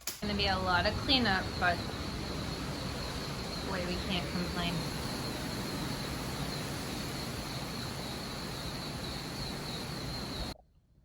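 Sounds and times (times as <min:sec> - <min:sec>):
background hiss: 0:00.0 - 0:10.6
insects trilling: 0:00.2 - 0:10.6.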